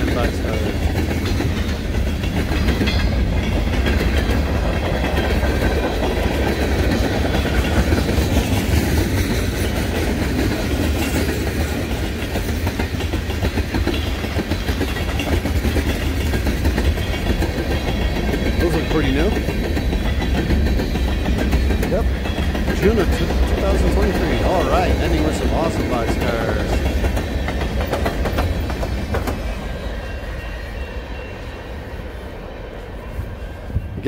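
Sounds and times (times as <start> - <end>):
freight train wheels clacking: 0.0 - 34.0.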